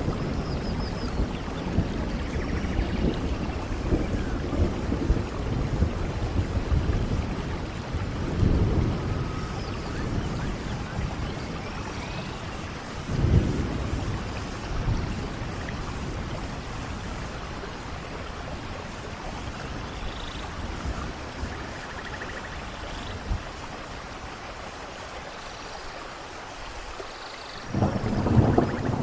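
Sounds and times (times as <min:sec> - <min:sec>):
thunder rumbles: 0:00.0 - 0:22.6, 0:27.7 - 0:29.0
steady rain: 0:00.0 - 0:29.0.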